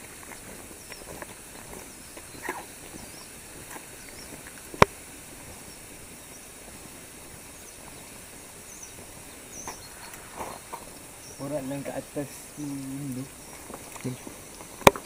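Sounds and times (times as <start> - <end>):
faint chirps: 0.0 - 15.0
footsteps on paved road: 0.0 - 15.0
high insect hum: 0.0 - 15.0.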